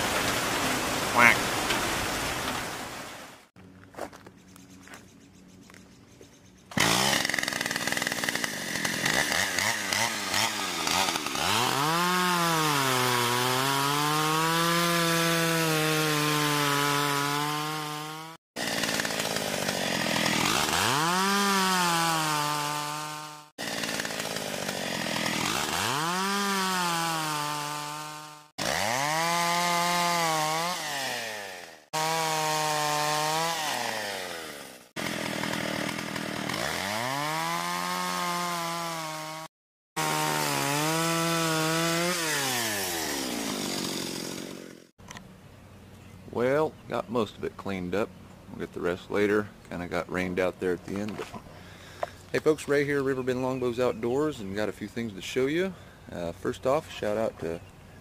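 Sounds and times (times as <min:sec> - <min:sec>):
chainsaw cutting log: 0:06.7 - 0:45.2, 0:48.5 - 0:57.6.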